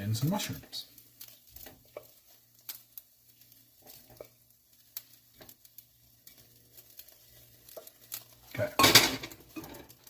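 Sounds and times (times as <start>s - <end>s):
butter sizzling in a pot: 0.0s - 10.0s.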